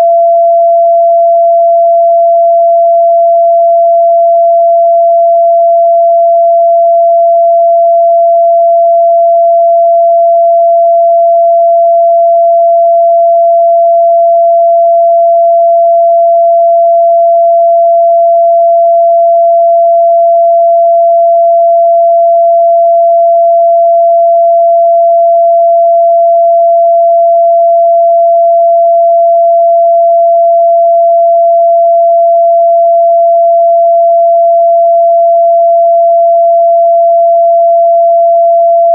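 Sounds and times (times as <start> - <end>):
sine wave test tone: 0.0 - 38.9.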